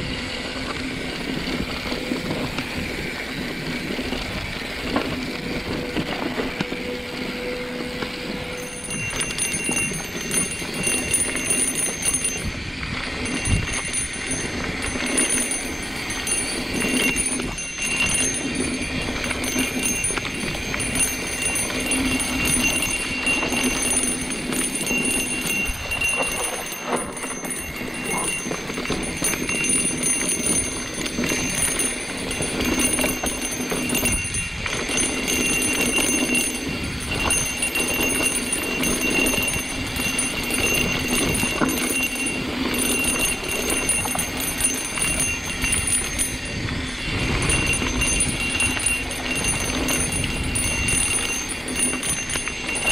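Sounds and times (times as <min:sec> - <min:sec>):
bike rattling and knocking: 0:00.0 - 0:52.9
bike tyres on dirt trail: 0:00.1 - 0:52.9.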